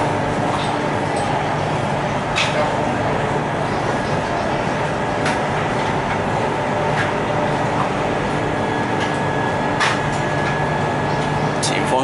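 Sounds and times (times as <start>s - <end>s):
traction motor hum: 0.0s - 11.6s
train wheels rumbling on rail: 0.0s - 12.0s.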